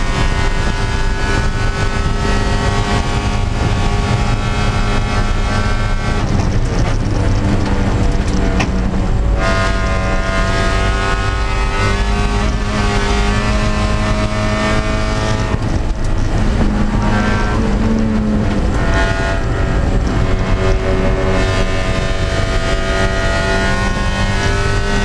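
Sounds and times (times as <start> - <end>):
race car engine: 0.0 - 25.0.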